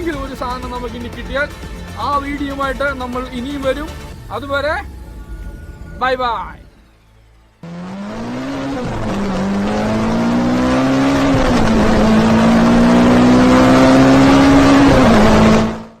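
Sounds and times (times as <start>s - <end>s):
car engine accelerating through gears: 0.0s - 16.0s.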